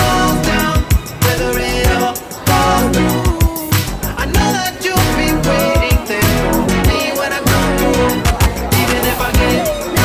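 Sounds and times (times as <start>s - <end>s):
pop music with drum beat: 0.0s - 10.0s.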